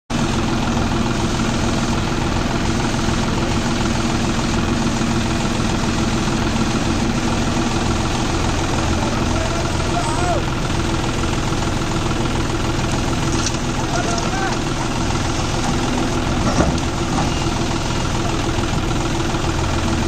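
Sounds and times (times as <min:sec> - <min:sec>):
excavator diesel engine: 0:00.1 - 0:20.0
tractor idling: 0:00.1 - 0:20.0.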